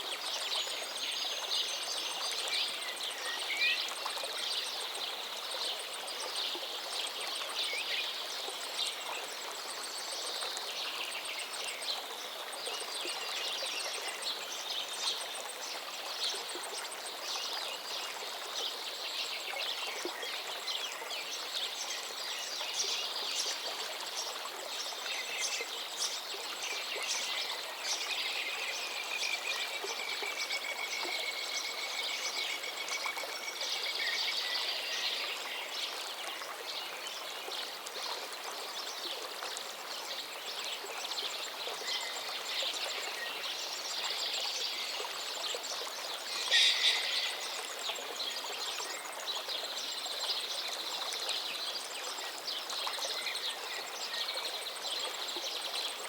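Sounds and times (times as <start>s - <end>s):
river flowing: 0.0s - 56.0s
songbirds chirping: 7.5s - 56.0s.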